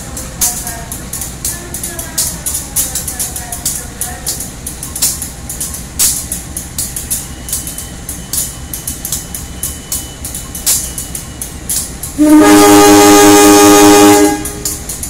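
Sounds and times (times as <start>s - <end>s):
sharp clicks and clanks: 0.0s - 12.2s, 14.4s - 15.0s
locomotive rumbling past: 0.0s - 15.0s.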